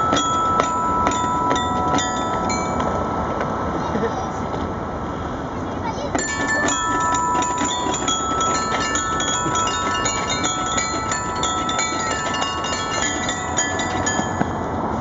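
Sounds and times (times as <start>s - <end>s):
overlapping chime-like tones: 0.0s - 5.1s, 6.2s - 15.0s.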